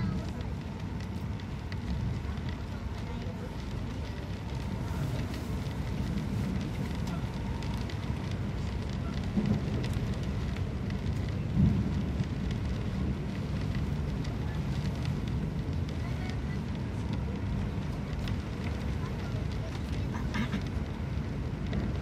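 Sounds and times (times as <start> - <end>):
rain ticking on window glass: 0.0 - 22.0
train rumbling: 0.0 - 22.0.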